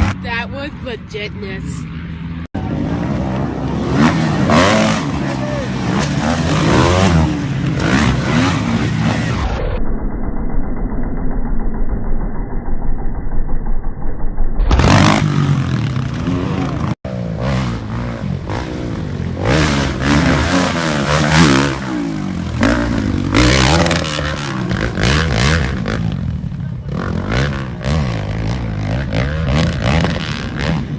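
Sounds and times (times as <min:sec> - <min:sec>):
motocross bike engines revving: 0:00.0 - 0:09.8, 0:14.7 - 0:30.9.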